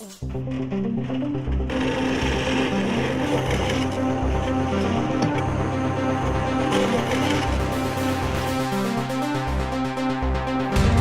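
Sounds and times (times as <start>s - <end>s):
electronic synth music: 0.2s - 11.0s.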